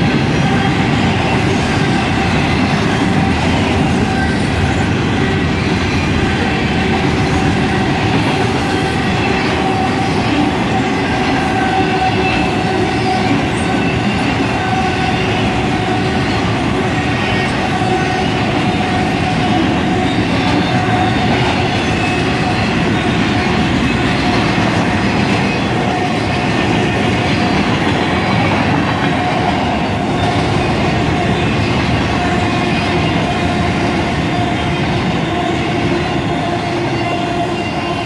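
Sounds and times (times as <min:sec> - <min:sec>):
steel wheels rumbling on rail: 0:00.0 - 0:38.0.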